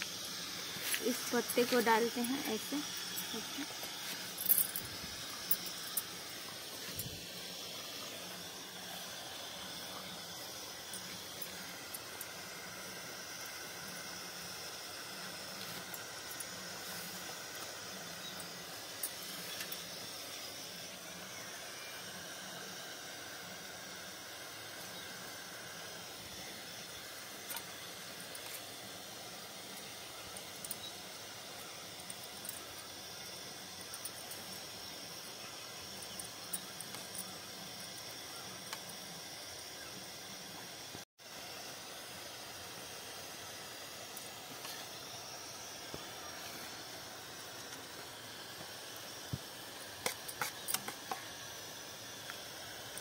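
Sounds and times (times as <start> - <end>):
steady steam hiss: 0.0 - 53.0.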